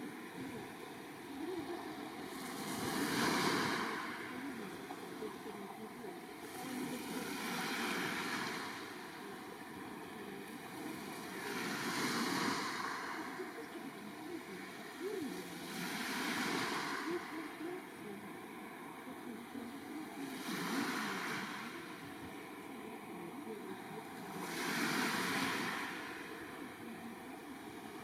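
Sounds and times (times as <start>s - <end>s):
sea waves breaking on shore: 0.0s - 28.0s.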